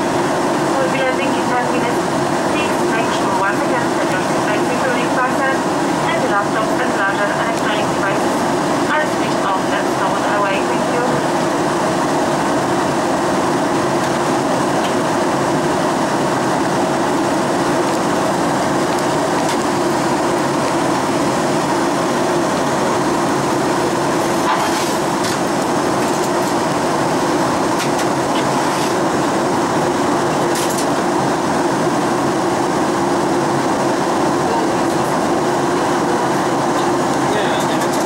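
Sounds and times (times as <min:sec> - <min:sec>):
airplane cabin engine drone: 0:00.0 - 0:38.0.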